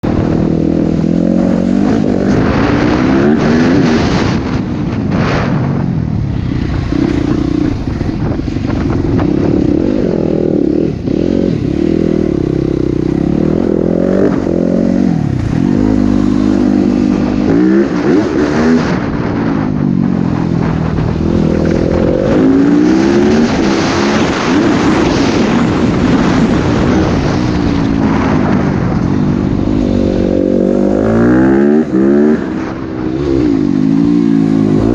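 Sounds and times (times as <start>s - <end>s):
dirt bike engine revving: 0.0s - 4.6s, 6.3s - 34.9s.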